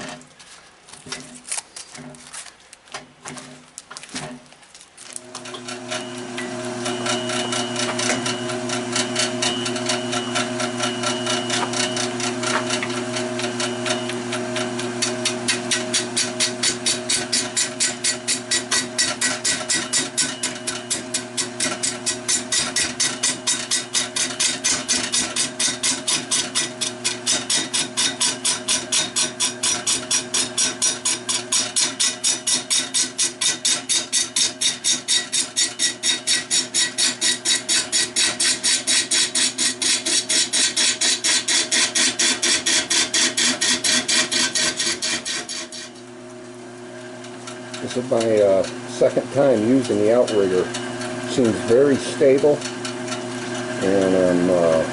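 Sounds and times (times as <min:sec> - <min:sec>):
lathe motor hum: 0:05.2 - 0:31.7, 0:35.3 - 0:54.9
lathe tool cutting chatter: 0:05.4 - 0:46.1, 0:47.3 - 0:54.9.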